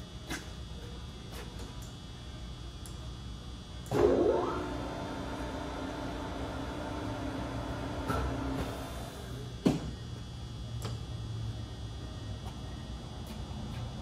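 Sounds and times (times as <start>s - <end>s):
lathe spindle whine and hum: 1.9s - 14.0s.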